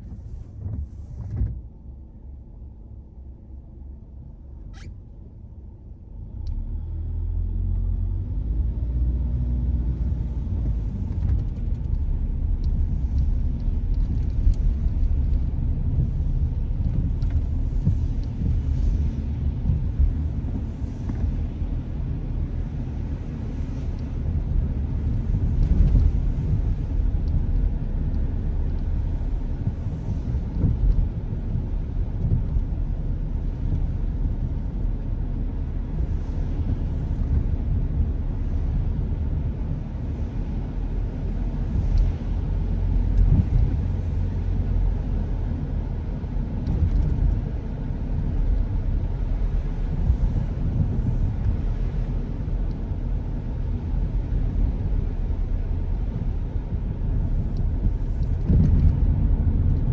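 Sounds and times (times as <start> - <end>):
car driving on wet road: 0.0 - 2.4, 6.1 - 59.9.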